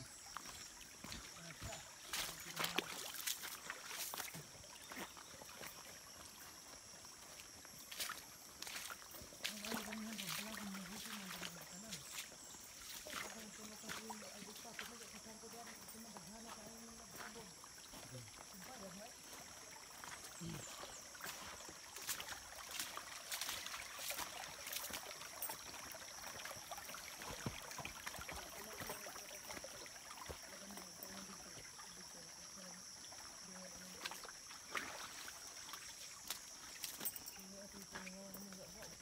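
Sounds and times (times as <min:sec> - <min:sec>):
footsteps on wet stony path: 0:00.0 - 0:31.7, 0:34.0 - 0:39.0
stream trickling over stones: 0:00.0 - 0:39.0.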